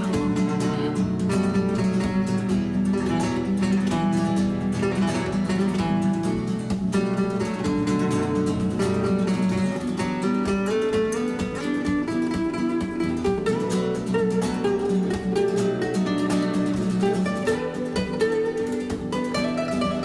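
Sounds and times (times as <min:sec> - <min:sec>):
acoustic guitar flamenco-style music: 0:00.0 - 0:20.0.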